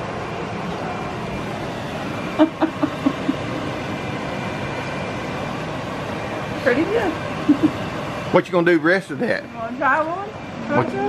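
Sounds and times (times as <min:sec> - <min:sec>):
fan noise: 0:00.0 - 0:11.0.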